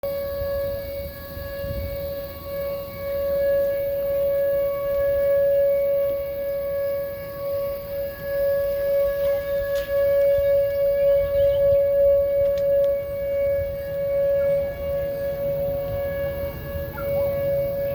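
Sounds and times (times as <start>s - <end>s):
electronic siren steady tone: 0.0s - 17.9s.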